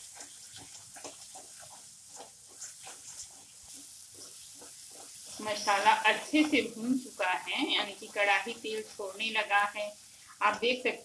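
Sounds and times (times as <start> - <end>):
spatula scraping a pan: 0.0 - 9.8
faint sizzle: 0.0 - 11.0.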